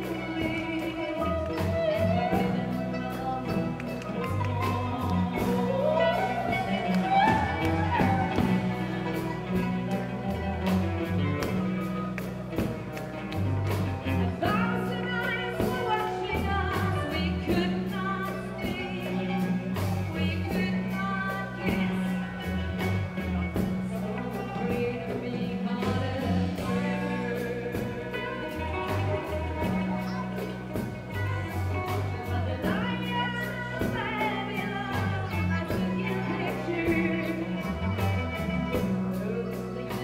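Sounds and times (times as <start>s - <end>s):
drums: 0.0s - 40.0s
electric bass: 0.0s - 40.0s
guitar: 0.0s - 40.0s
woman singing: 0.0s - 40.0s.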